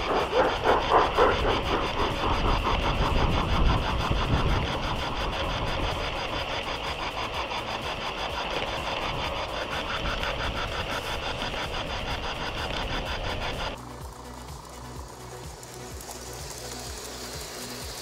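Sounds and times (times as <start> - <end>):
model train motor running: 0.0 - 18.0.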